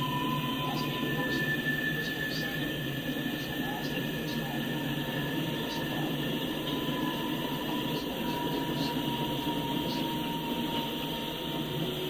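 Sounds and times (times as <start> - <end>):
freight cars rumbling on rails: 0.0 - 12.0.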